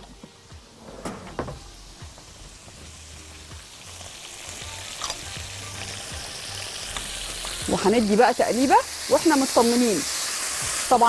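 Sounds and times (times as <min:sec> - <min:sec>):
meat sizzling in hot pan: 0:01.7 - 0:11.0.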